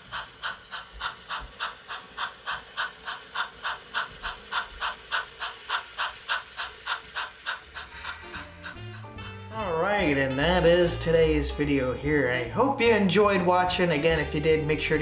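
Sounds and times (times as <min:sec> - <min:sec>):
model steam locomotive chuffing: 0:00.0 - 0:15.0.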